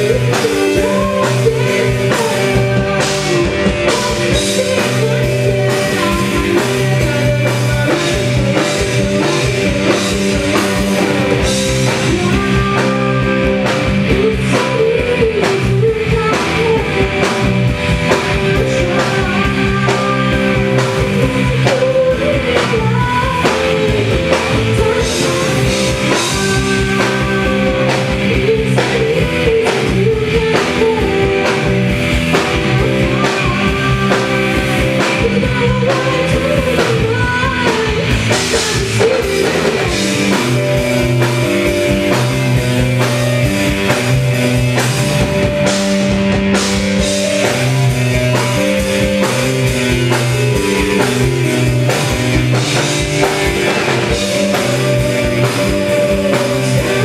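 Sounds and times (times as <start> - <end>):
person singing: 0.0 - 57.0
piano rock band playing: 0.0 - 57.0.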